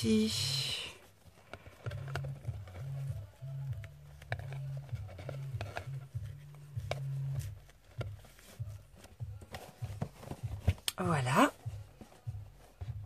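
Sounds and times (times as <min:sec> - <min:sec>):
hands handling cardboard boxes: 0:00.5 - 0:13.0.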